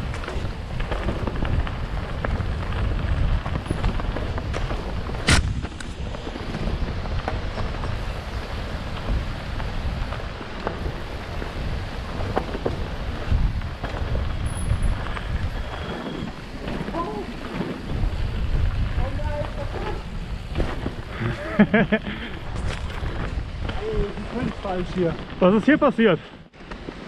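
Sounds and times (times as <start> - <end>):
bike chain and frame rattling: 0.0 - 5.2, 6.3 - 25.8
bike tyre noise: 0.0 - 27.0
wind rumbling on microphone: 0.0 - 27.0.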